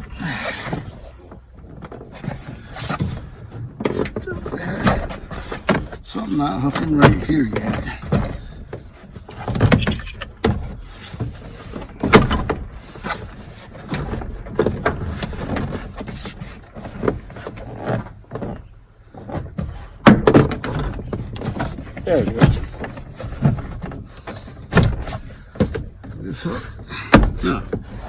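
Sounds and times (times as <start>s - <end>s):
plastic panel rattling and knocking: 0.0s - 28.0s.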